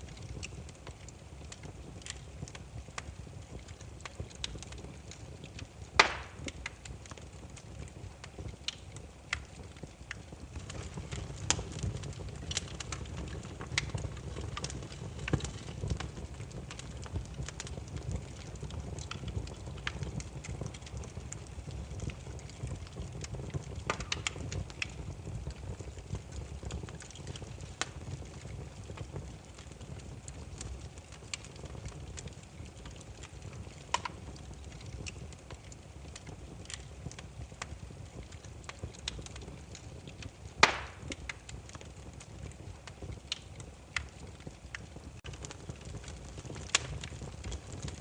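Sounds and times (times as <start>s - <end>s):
firewood crackling: 0.0s - 48.0s.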